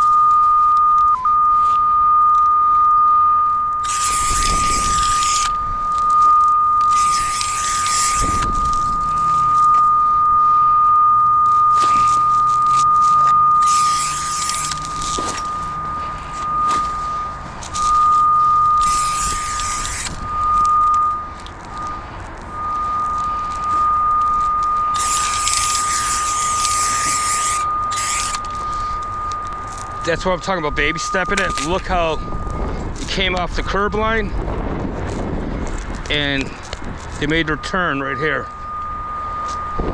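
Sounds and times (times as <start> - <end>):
steady high electronic tone: 0.0 - 39.9.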